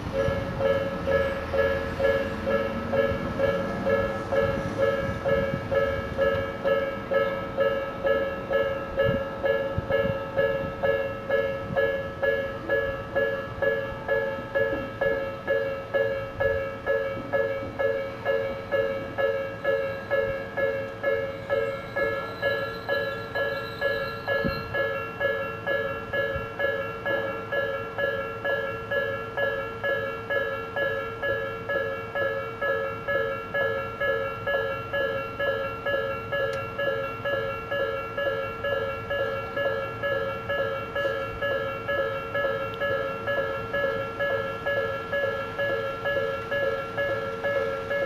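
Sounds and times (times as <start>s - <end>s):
level-crossing alarm bell: 0.0s - 48.0s.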